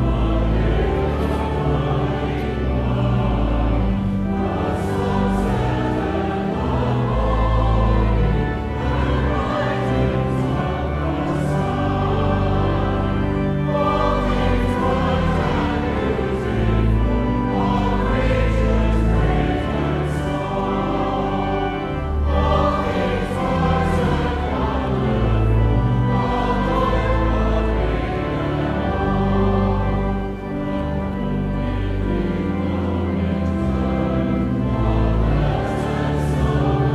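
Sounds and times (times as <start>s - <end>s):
choir singing: 0.0s - 36.9s
instrumental accompaniment: 0.0s - 36.9s.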